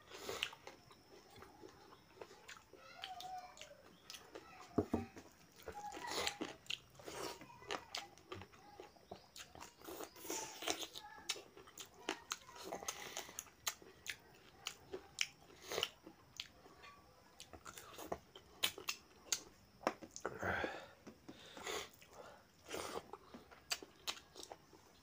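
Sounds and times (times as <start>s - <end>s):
person chewing wetly: 0.1s - 4.4s, 5.4s - 16.6s, 17.4s - 20.3s, 21.3s - 24.7s.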